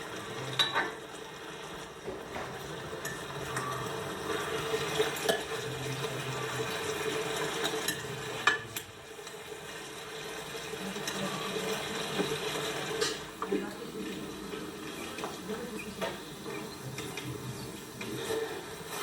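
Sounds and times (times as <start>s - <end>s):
food cooking in a pan: 0.0s - 19.0s.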